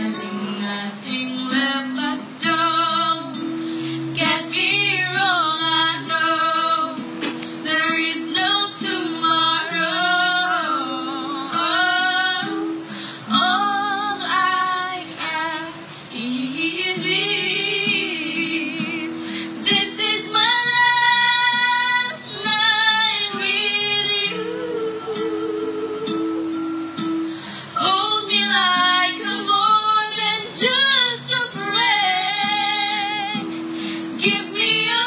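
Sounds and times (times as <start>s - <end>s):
recorded backing track: 0.0s - 35.0s
woman singing karaoke: 0.0s - 35.0s.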